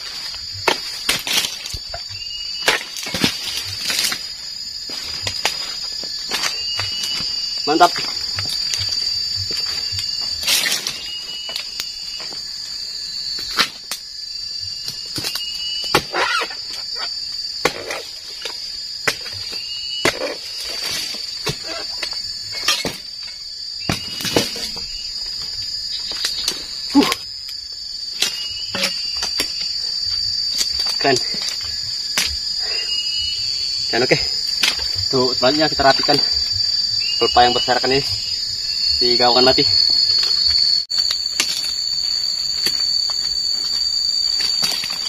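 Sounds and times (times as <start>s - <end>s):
high-pitched insect drone: 0.0s - 45.0s.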